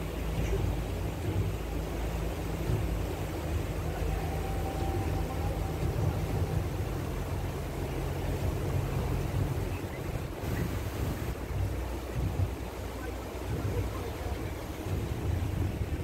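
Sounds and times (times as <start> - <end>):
ferry engine drone: 0.0 - 16.0
wind and water rushing: 0.0 - 16.0.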